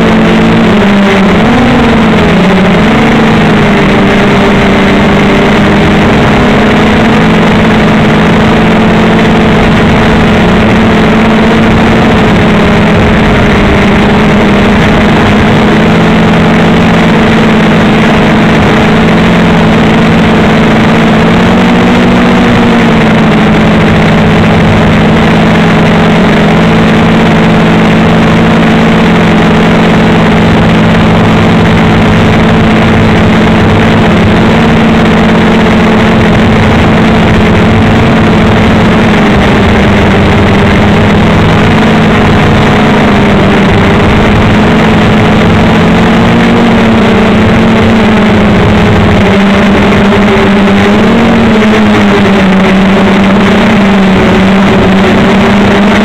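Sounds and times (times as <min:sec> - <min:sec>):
quadcopter propellers humming: 0:00.0 - 0:56.0.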